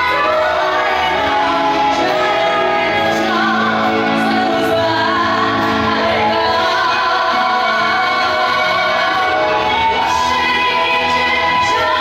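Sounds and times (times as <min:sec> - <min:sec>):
traditional orchestra: 0:00.0 - 0:12.0
woman singing into microphone: 0:00.0 - 0:12.0.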